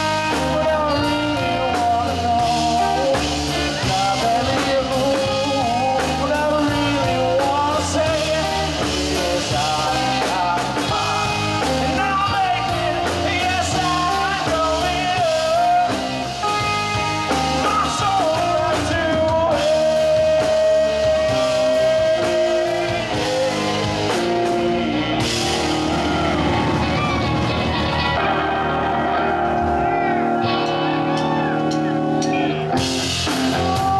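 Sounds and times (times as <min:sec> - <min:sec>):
man singing: 0:00.0 - 0:26.3, 0:29.2 - 0:33.9
drum kit: 0:00.0 - 0:33.9
electric guitars: 0:00.0 - 0:33.9
live rock band playing: 0:00.0 - 0:33.9.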